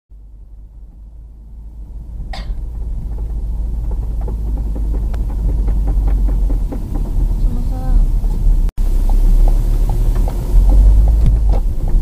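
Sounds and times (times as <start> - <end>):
car road and engine rumble: 0.1 - 12.0
ticking from wheel: 0.8 - 12.0.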